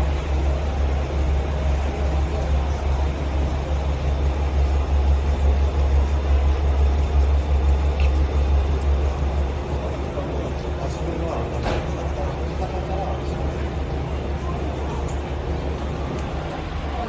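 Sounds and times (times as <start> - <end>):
railcar engine idling: 0.0 - 17.0.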